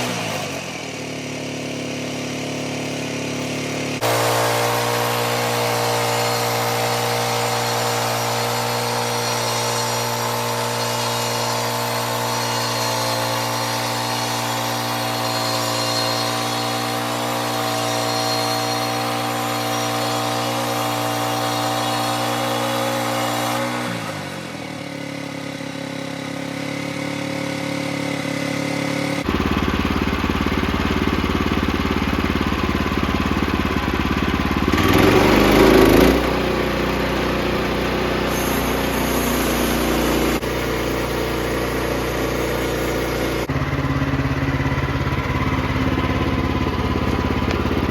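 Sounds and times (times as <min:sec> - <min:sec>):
rough engine sound: 0:00.0 - 0:15.4, 0:22.6 - 0:47.9
small gasoline engine running: 0:00.0 - 0:47.9.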